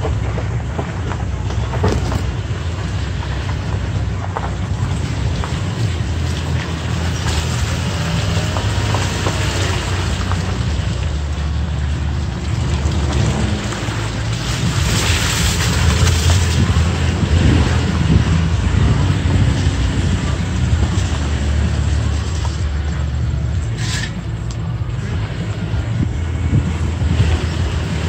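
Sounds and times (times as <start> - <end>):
truck engine low: 0.0 - 28.0
tyres crunching over gravel: 0.0 - 28.0.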